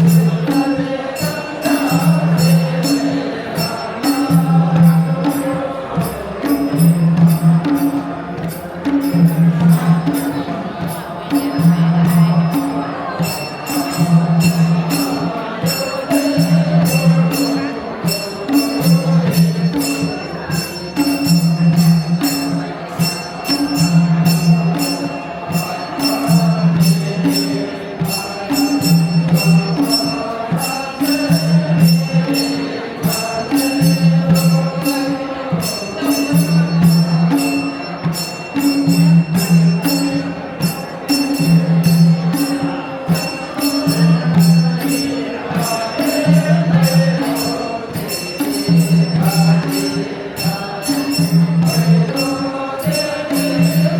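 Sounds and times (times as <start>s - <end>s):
jingling percussion: 0.0s - 53.9s
singing: 0.0s - 53.9s.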